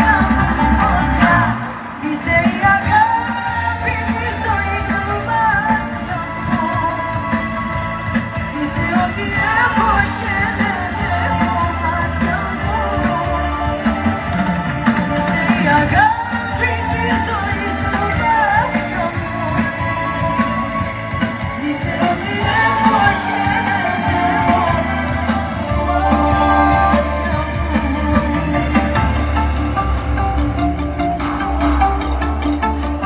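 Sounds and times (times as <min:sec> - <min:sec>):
live band music with singing: 0:00.0 - 0:33.0.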